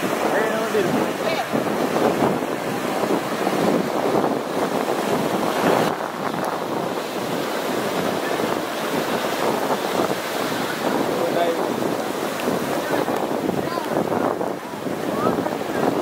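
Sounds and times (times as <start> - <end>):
surf breaking on sandy beach: 0.0 - 16.0
wind buffeting microphone: 0.0 - 16.0.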